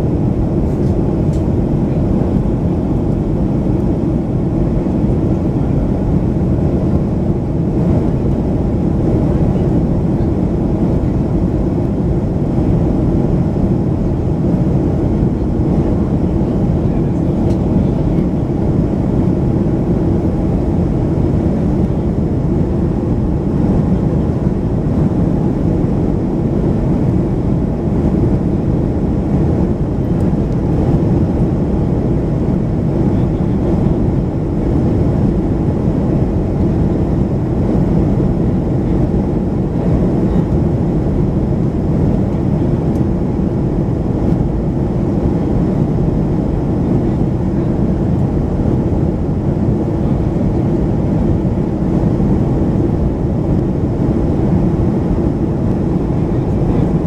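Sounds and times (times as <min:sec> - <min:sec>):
airflow over fuselage: 0:00.0 - 0:57.0
jet engines droning: 0:00.0 - 0:57.0.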